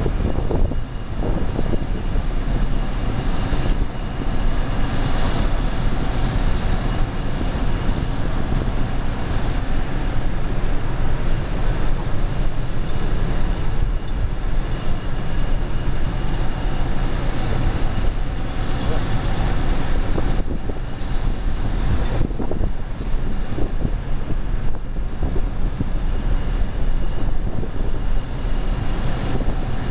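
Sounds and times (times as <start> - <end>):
high-pitched machine squeals: 0.0 - 10.1, 11.2 - 12.0, 12.8 - 23.8, 24.9 - 25.6, 26.4 - 29.9.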